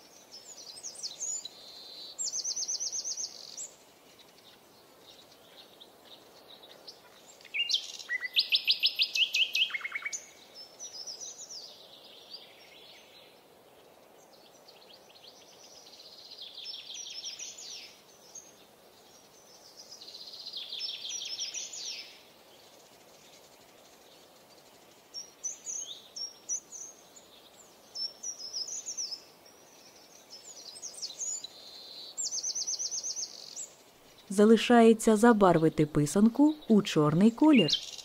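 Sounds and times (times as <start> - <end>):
faint steady hiss: 0.0 - 38.0
songbirds singing: 0.0 - 38.0.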